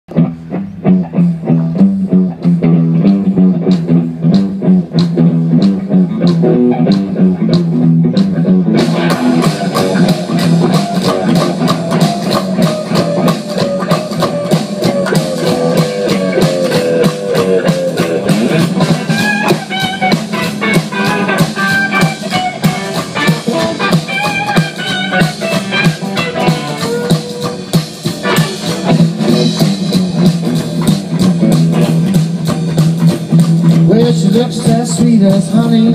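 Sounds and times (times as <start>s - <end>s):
blues-rock band with drum kit: 0.1s - 35.9s
guitar rhythmic figure: 0.1s - 35.9s.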